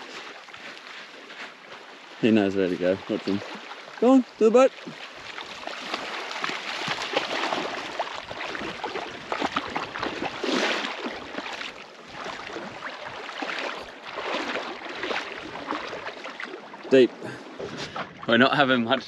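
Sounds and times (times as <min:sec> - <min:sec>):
splashing through shallow water: 0:00.0 - 0:19.0.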